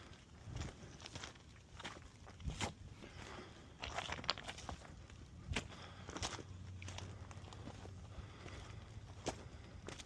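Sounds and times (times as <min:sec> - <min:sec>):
footsteps: 0:00.0 - 0:10.0.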